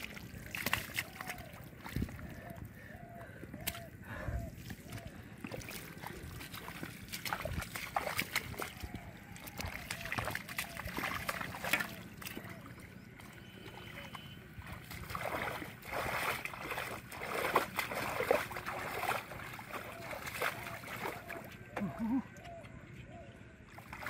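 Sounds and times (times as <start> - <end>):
hands splashing muddy water: 0.0 - 22.2, 23.7 - 24.0
feet squelching in mud: 0.0 - 22.6.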